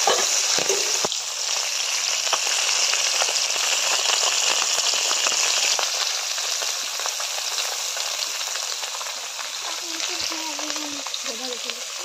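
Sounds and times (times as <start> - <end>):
fish frying in hot oil: 0.0 - 12.0
crackles of spattering oil: 2.1 - 12.0.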